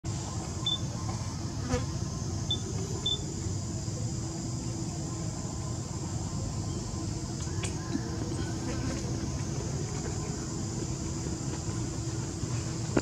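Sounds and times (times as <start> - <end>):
high-pitched insect drone: 0.1 - 13.0.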